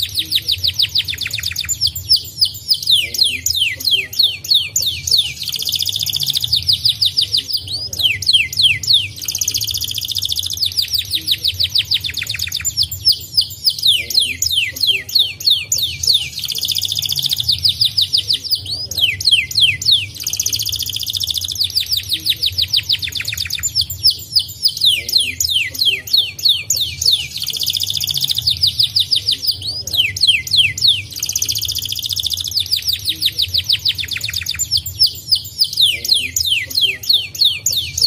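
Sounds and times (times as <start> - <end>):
canary singing: 0.0 - 38.0.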